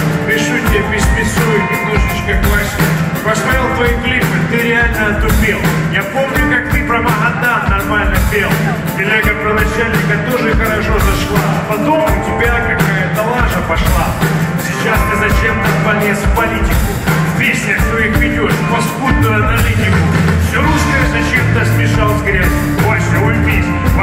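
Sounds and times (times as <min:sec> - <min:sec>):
drum kit steady beat: 0:00.0 - 0:24.0
electric guitar: 0:00.0 - 0:24.0.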